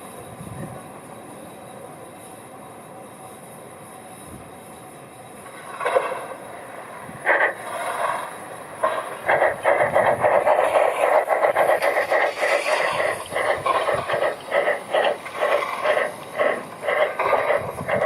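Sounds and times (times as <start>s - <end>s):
steam locomotive chuffing: 0.0s - 18.0s.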